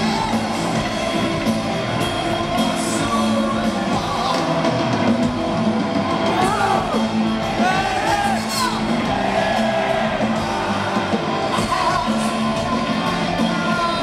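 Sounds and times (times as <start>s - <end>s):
distorted electric guitars: 0.0s - 14.0s
drum kit playing: 0.0s - 14.0s.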